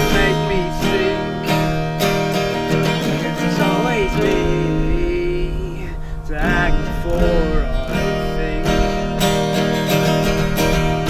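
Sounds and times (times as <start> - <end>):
man singing: 0.0 - 9.6
acoustic guitar strumming: 0.0 - 11.0.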